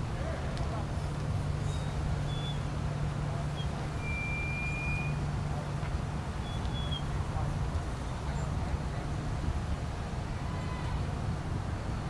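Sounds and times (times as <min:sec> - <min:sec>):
drone of car engines: 0:00.0 - 0:12.0.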